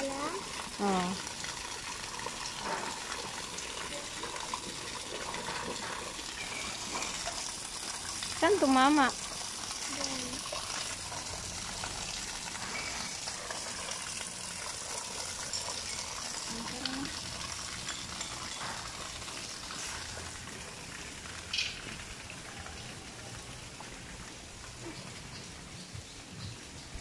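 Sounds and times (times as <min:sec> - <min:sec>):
fountain splashing into pond: 0:00.0 - 0:27.0.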